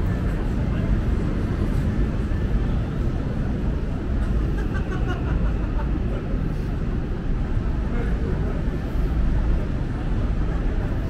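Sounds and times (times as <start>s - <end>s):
city background rumble: 0.0s - 11.0s.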